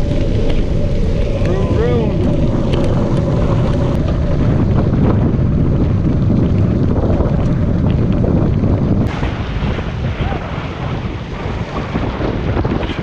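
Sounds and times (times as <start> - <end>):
tyres rolling over gravel: 0.0 - 12.8
wind buffeting microphone: 0.0 - 13.0.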